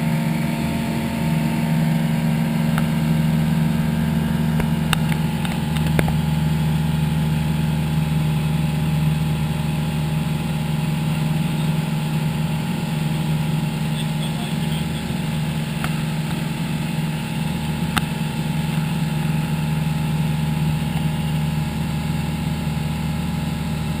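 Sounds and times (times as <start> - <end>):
aircraft engine droning: 0.0 - 24.0.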